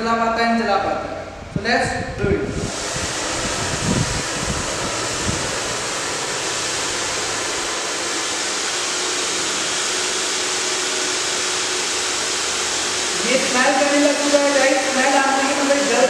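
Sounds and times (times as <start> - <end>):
faint motor hum: 0.0 - 16.0
hair dryer blowing: 2.4 - 16.0.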